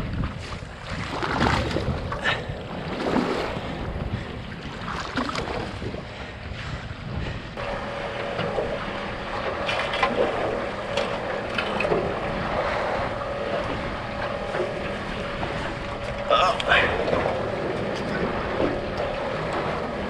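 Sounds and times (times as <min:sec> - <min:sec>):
water splashing against boat: 0:00.0 - 0:20.0
wind buffeting microphone: 0:00.0 - 0:20.0.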